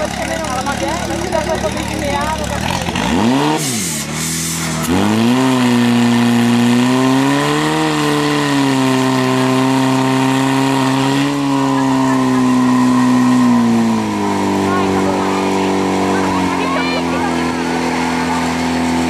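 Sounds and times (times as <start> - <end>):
small pump engine revving: 0.0 - 19.0.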